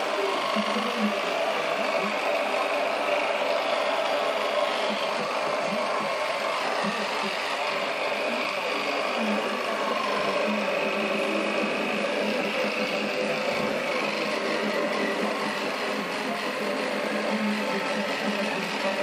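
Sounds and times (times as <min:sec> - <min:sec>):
electric toothbrush buzzing: 0:00.0 - 0:19.0.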